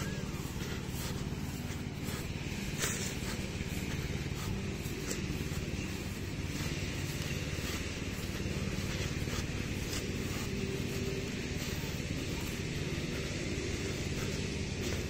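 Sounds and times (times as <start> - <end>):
grass trimmer engine drone: 0.0 - 15.0.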